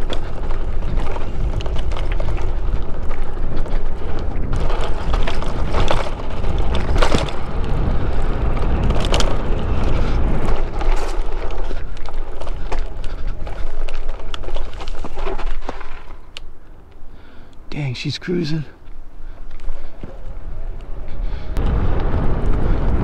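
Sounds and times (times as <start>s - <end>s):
bike rattling over bumps: 0.0s - 17.5s, 18.5s - 23.0s
wind buffeting microphone: 0.0s - 17.7s, 18.8s - 23.0s
tyres rolling on dirt trail: 0.0s - 23.0s.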